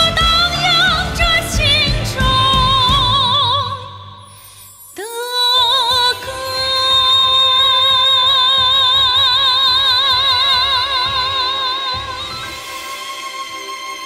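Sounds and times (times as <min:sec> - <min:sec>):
orchestral pop ballad music: 0:00.0 - 0:14.0.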